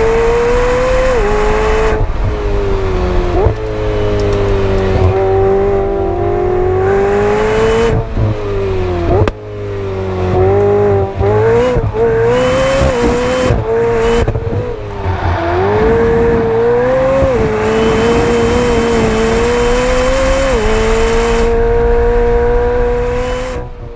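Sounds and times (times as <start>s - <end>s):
sports car engine revving: 0.0s - 23.9s.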